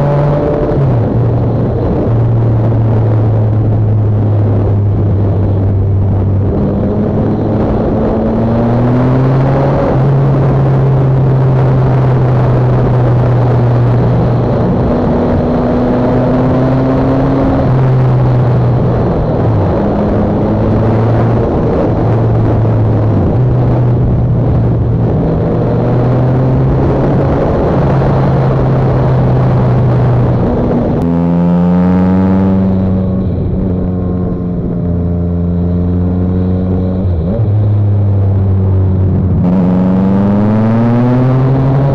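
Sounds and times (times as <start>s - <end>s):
motorcycle engine: 0.0s - 41.9s
wind noise on microphone: 0.0s - 41.9s.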